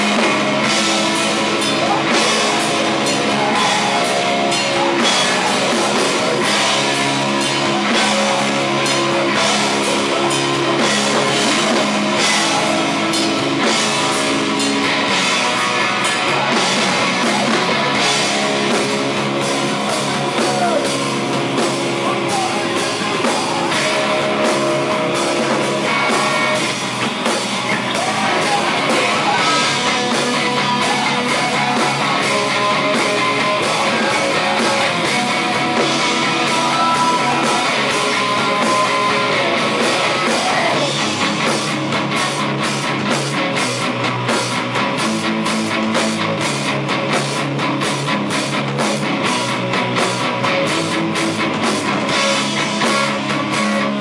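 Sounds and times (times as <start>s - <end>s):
distorted electric guitars: 0.0s - 54.0s
live rock band playing: 0.0s - 54.0s
pounding drum kit: 0.0s - 54.0s.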